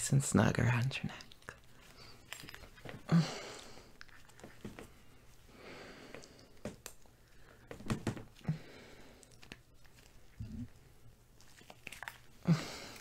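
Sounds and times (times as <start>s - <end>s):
soft rustling: 1.0s - 13.0s.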